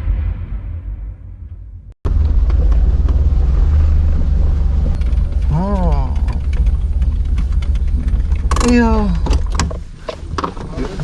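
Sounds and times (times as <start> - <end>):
vehicle motor rumbling: 2.0 - 11.0.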